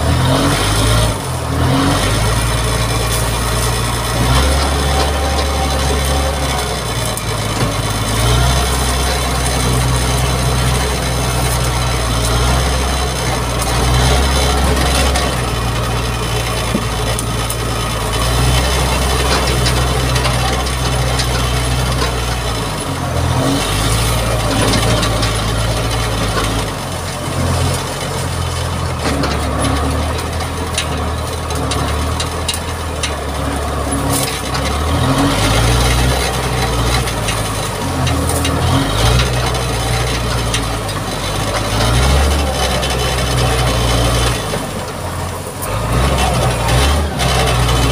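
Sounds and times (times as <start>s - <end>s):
blade scraping earth and gravel: 0.0s - 47.9s
diesel engine running under load: 0.0s - 47.9s.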